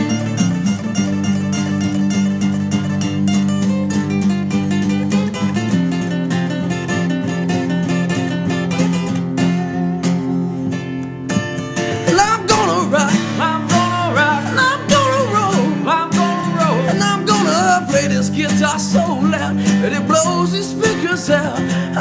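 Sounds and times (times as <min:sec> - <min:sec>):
sliding lead guitar melody: 0:00.0 - 0:22.0
strummed acoustic guitar chords: 0:00.0 - 0:22.0.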